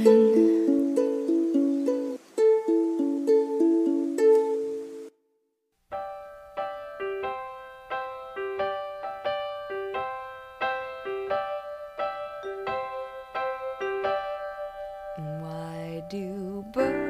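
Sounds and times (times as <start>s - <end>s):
solo piano chords: 0.0s - 4.7s, 5.9s - 17.0s.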